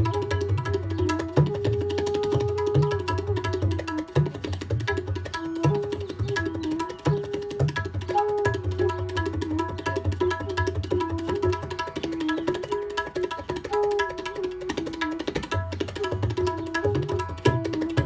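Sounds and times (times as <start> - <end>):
bamboo flute melody: 0.0 - 18.0
fast tabla strokes: 0.0 - 18.0
tanpura drone: 0.0 - 18.0.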